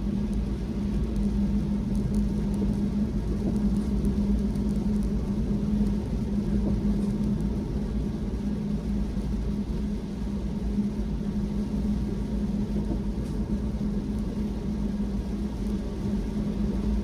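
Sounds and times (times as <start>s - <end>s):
car engine and tyres rumbling: 0.0s - 17.0s
constant hum: 0.0s - 17.0s.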